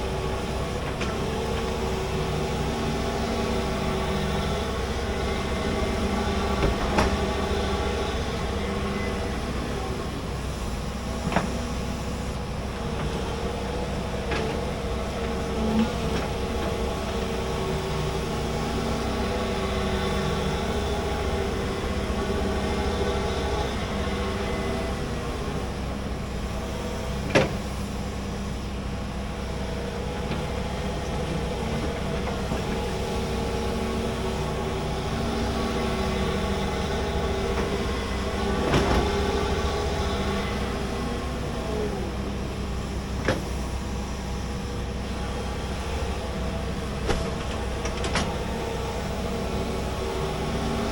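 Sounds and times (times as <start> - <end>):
excavator engine running: 0.0 - 50.9.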